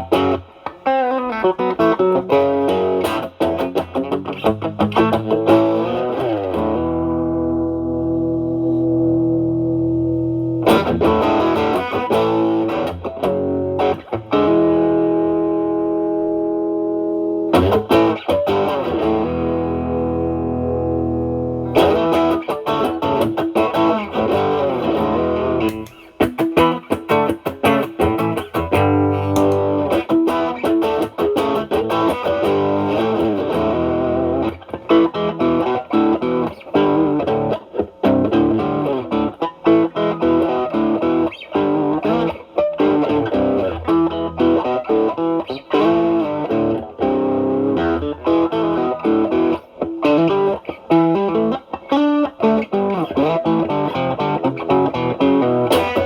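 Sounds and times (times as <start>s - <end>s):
overdriven electric guitar blues lead: 0.0s - 56.0s.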